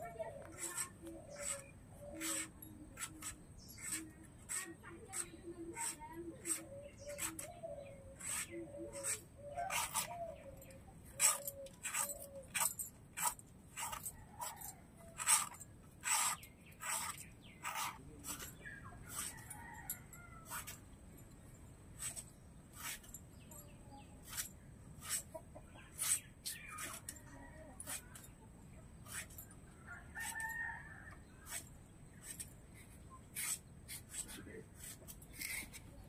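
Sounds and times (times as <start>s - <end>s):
knife scraping gourd skin: 0.2s - 20.8s, 22.0s - 23.2s, 24.2s - 28.4s, 29.0s - 36.0s.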